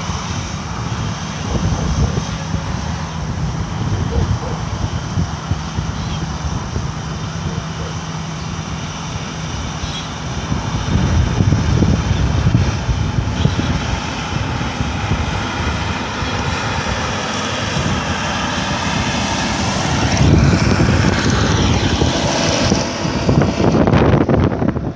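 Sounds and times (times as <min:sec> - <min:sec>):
harvester engine running: 0:00.0 - 0:24.9.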